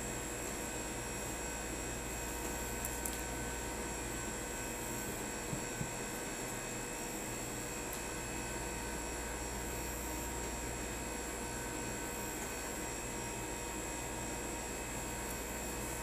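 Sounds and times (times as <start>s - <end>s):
air conditioner hum and fan hiss: 0.0s - 16.0s.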